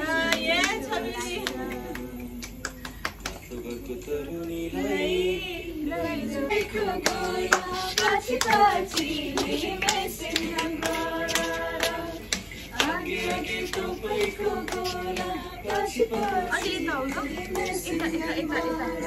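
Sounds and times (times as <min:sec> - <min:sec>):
women singing together: 0:00.0 - 0:03.0, 0:04.5 - 0:19.0
hands clapping in rhythm: 0:00.0 - 0:03.9, 0:06.5 - 0:19.0.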